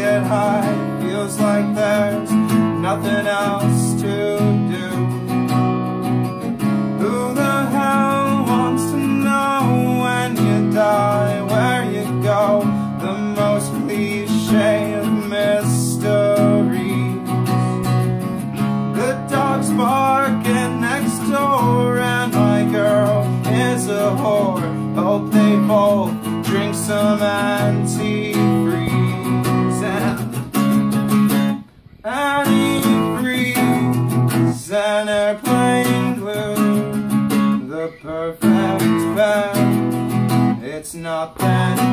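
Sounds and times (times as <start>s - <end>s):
man singing: 0.0s - 5.6s, 6.6s - 30.8s, 31.9s - 41.9s
acoustic guitar strumming: 0.0s - 41.9s.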